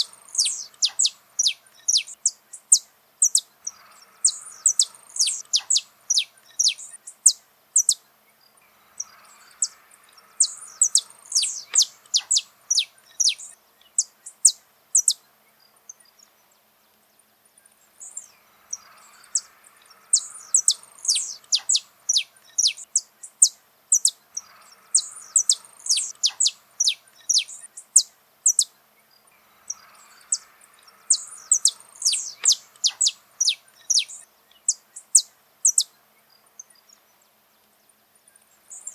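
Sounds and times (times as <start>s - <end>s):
finch singing: 0.0s - 16.6s, 17.7s - 38.9s.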